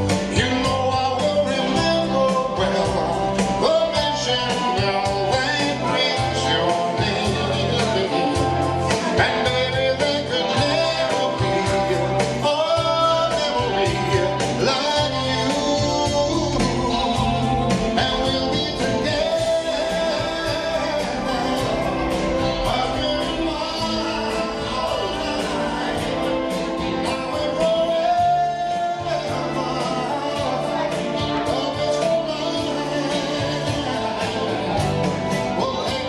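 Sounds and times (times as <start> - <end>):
live band music: 0.0 - 36.0
man singing into a microphone: 0.0 - 36.0.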